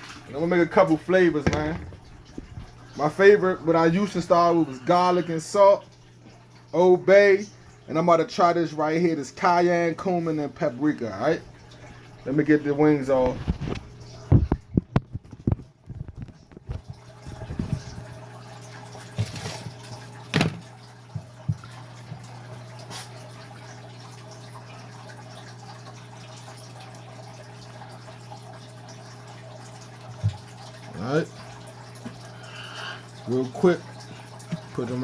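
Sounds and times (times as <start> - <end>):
water dripping: 0.0 - 35.0.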